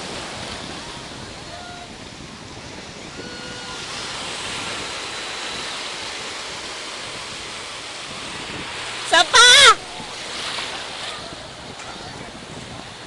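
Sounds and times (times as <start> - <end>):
ocean surf breaking on beach: 0.0 - 13.0
wind on microphone: 0.0 - 13.0.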